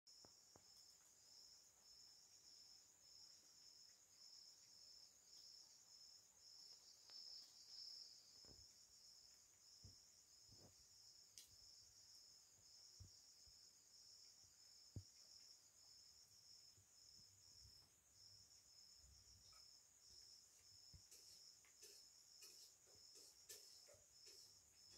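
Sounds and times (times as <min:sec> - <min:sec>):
crickets trilling: 0:00.1 - 0:24.9
lower pulsing insect trill: 0:00.1 - 0:24.9.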